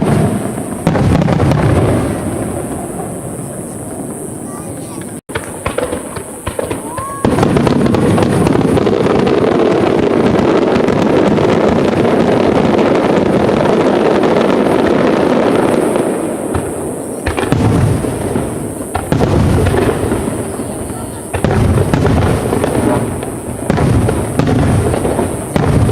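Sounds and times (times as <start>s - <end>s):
fireworks bangs and crackle: 0.0s - 25.9s.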